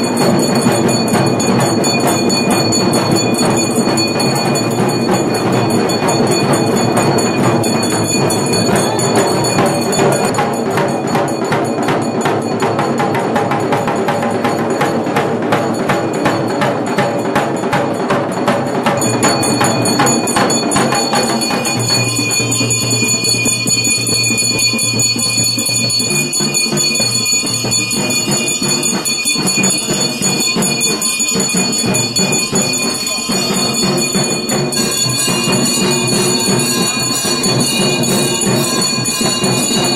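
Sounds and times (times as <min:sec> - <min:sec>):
bells ringing: 0:00.0 - 0:39.9
fast hand-drumming: 0:00.0 - 0:39.9.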